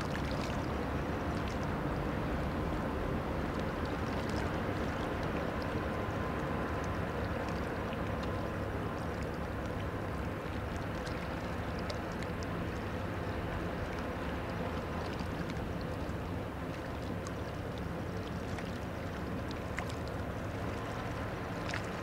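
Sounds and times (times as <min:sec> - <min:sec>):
low diesel engine drone: 0:00.0 - 0:22.0
water rushing along hull: 0:00.0 - 0:22.0.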